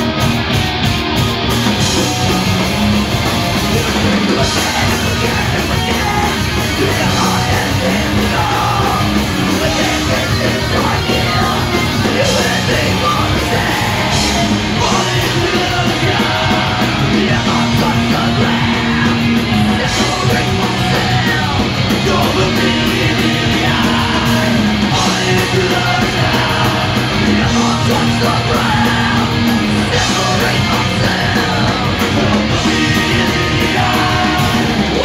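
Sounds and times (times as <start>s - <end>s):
punk rock band playing: 0.0s - 35.0s.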